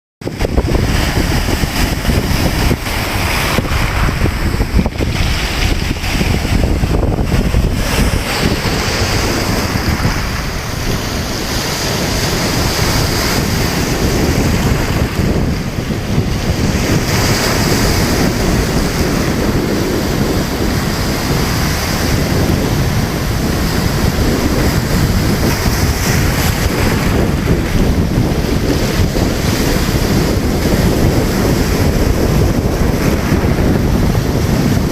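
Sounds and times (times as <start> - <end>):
sea surf washing ashore: 0.2 - 34.9
wind rumbling on microphone: 0.2 - 34.9.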